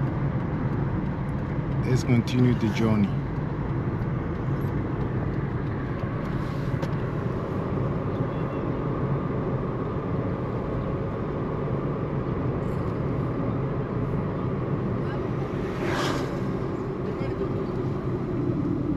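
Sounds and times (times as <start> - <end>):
car engine hum: 0.0 - 18.9
road noise: 0.0 - 18.9.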